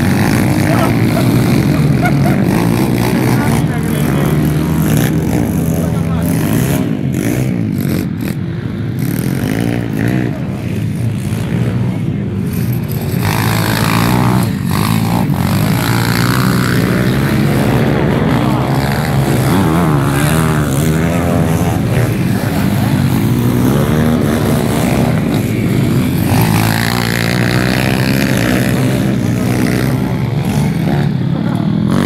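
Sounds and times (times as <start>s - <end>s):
pit bike engines revving: 0.0s - 32.0s.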